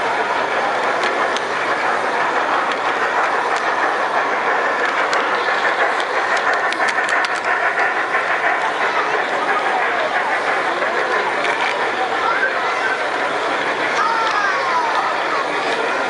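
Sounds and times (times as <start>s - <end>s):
model trains rolling rumble: 0.0s - 16.0s
wheel clicks: 0.1s - 16.0s.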